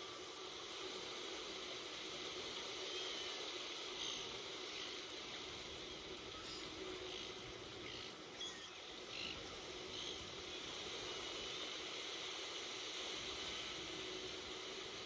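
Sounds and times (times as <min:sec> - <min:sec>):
beach surf hissing: 0:00.0 - 0:15.0.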